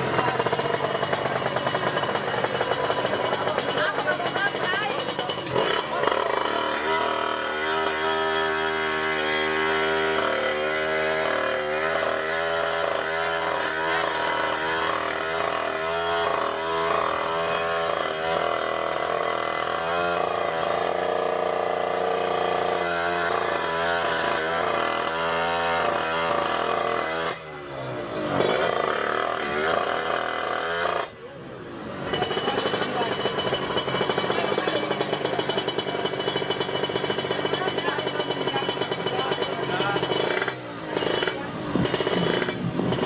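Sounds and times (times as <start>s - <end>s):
motorcycle accelerating hard: 0.0s - 43.0s
motorcycle engines at high revs: 0.0s - 43.0s.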